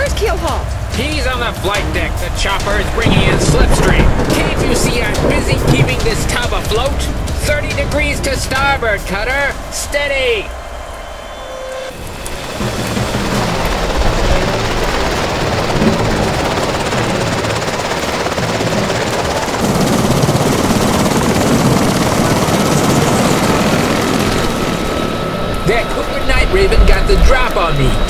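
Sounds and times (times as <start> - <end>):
helicopter drone: 0.0 - 28.0.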